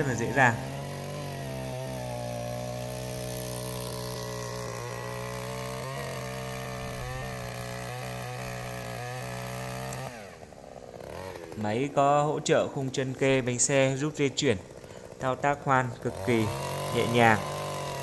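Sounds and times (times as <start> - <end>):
earth auger engine boring soil: 0.0 - 18.0.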